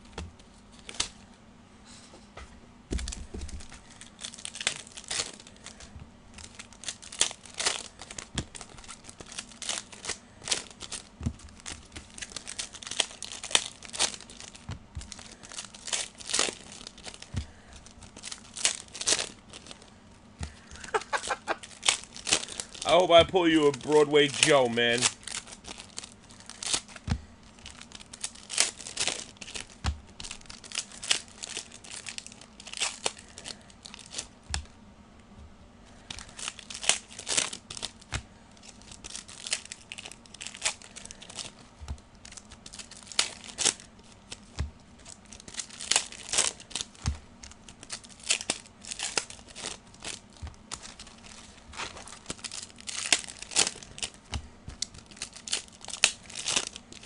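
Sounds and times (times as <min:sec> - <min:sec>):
card pack wrappers tearing and crinkling: 0:00.0 - 0:01.2, 0:02.9 - 0:34.7, 0:35.9 - 0:57.0.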